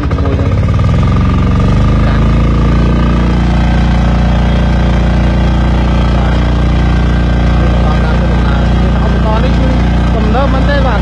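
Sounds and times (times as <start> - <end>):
walk-behind tractor engine running: 0.0 - 11.0.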